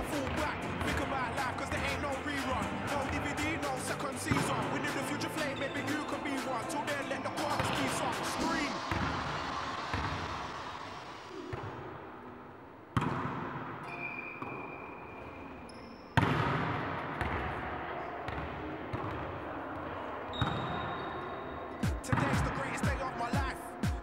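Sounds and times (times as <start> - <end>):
volleyball hits echoing: 0.0 - 10.4, 11.3 - 15.2, 16.2 - 21.0, 21.8 - 24.0.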